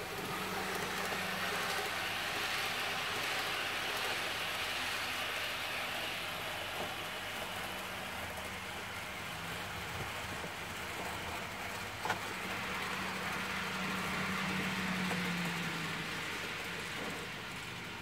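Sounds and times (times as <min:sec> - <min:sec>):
model train motor hum: 0:00.0 - 0:18.0
wheels rolling on track: 0:00.0 - 0:18.0.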